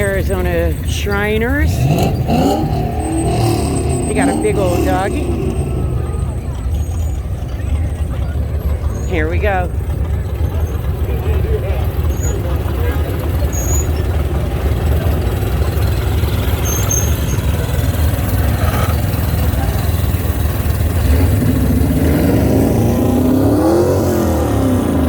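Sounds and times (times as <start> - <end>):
engine revving: 0.0 - 10.2, 11.2 - 25.0
vehicle engines rumbling: 0.0 - 25.0.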